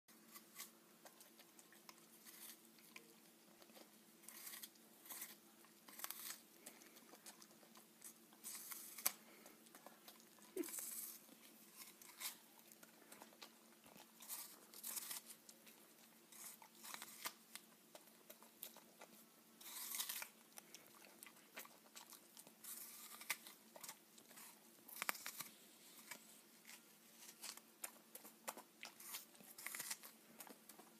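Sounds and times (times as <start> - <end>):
dog crunching an apple: 0.1 - 30.9
faint steady hum: 0.1 - 30.9.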